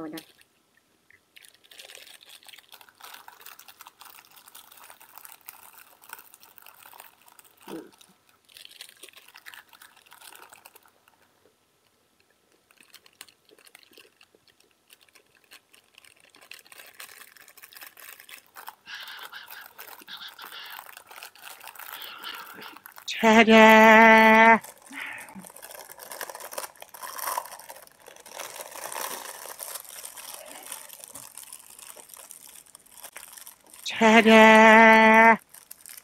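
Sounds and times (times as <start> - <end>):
plastic wrapper crinkling: 0.0 - 36.0.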